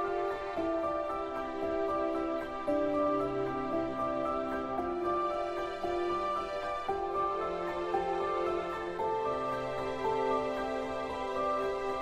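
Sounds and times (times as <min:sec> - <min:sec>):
slow relaxing melody: 0:00.0 - 0:12.0.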